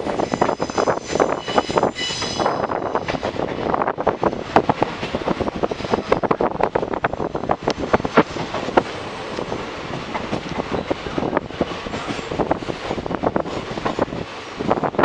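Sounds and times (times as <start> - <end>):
train clicks and rattles: 0.0 - 15.0
train wheel and wind rush: 0.0 - 15.0.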